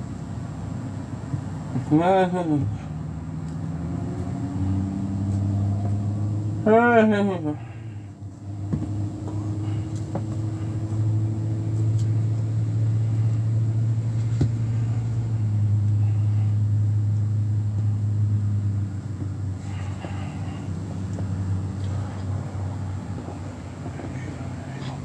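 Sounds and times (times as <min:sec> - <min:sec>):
low rumbling hum: 0:00.0 - 0:25.0.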